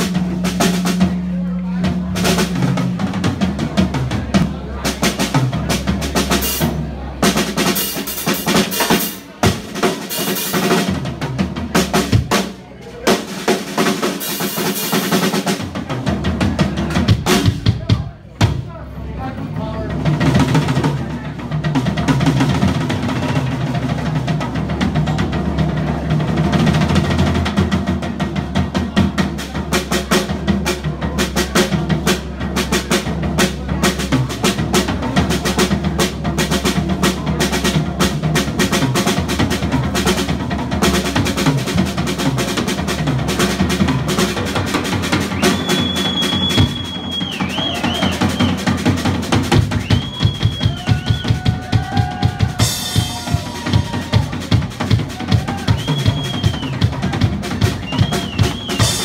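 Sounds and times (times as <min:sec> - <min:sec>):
drum solo on acoustic kit: 0:00.0 - 0:59.0.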